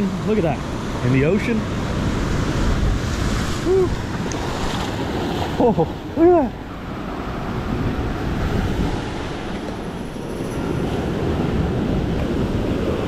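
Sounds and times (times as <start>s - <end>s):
surf against rocky shore: 0.0s - 13.0s.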